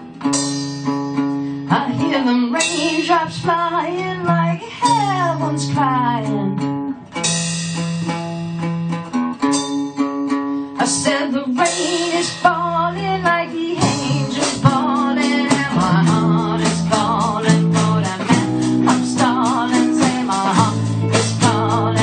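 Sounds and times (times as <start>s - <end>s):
blues-rock band playing: 0.0s - 11.1s, 11.7s - 22.0s
vibrato lead guitar melody: 0.0s - 22.0s.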